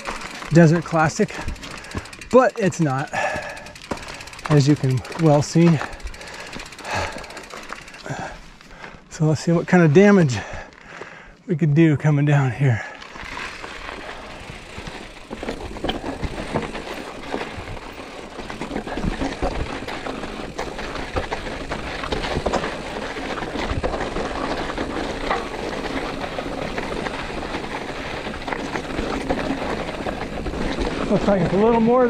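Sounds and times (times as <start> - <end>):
tyres crunching over gravel: 0.0 - 32.0.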